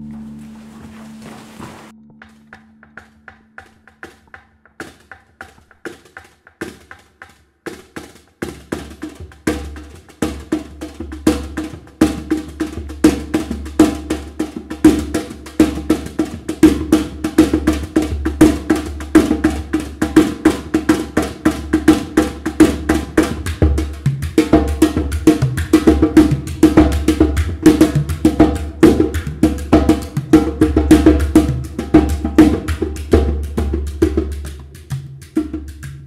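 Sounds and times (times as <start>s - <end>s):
drum taps with beater: 2.0s - 14.1s, 14.7s - 36.0s.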